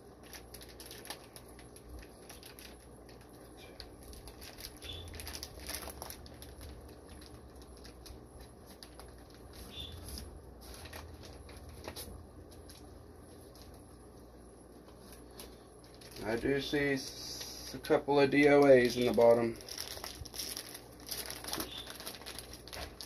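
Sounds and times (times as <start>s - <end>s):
plastic bags crinkling: 0.0s - 13.9s, 14.9s - 17.0s, 18.2s - 23.0s.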